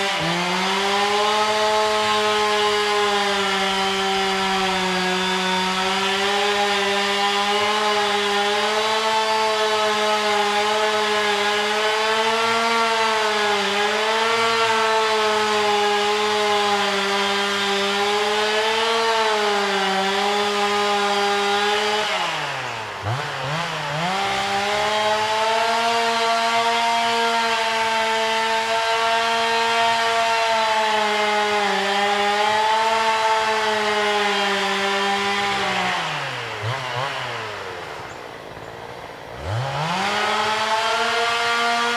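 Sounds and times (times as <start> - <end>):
chainsaw running at high speed: 0.0 - 41.9.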